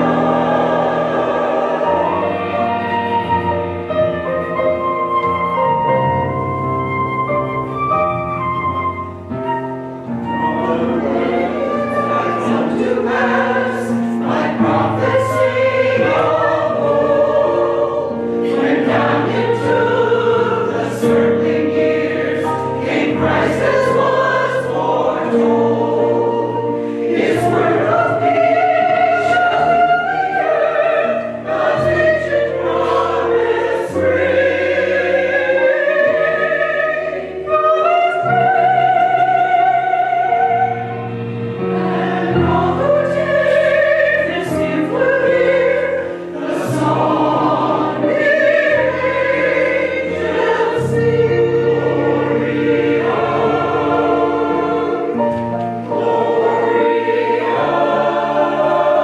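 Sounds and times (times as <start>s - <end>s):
choir singing: 0.0s - 59.0s
instrumental accompaniment: 0.0s - 59.0s.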